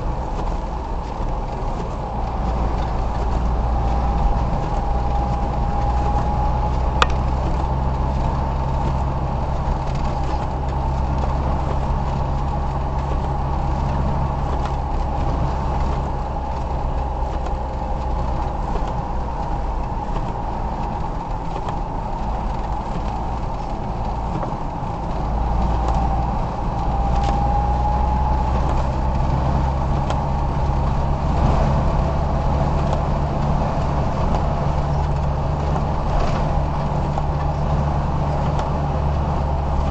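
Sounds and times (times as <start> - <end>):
car engine and road hum: 0.0 - 39.9.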